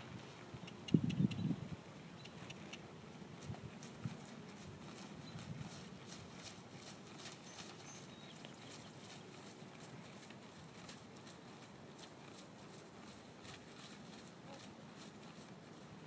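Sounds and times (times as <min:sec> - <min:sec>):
horse hoofbeats on grass: 0:02.3 - 0:16.0.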